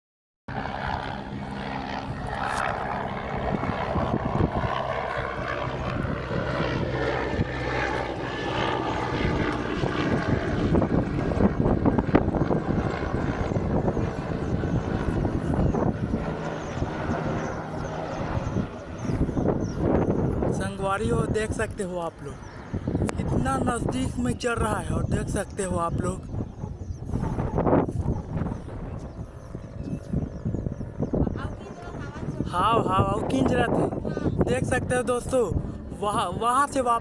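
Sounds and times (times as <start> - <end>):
helicopter rotor chopping: 0.5 - 37.0.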